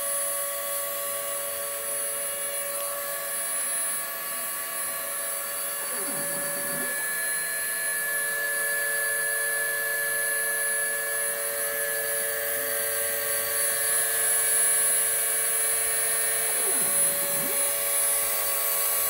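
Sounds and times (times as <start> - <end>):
rotary tool motor whine: 0.0 - 19.0.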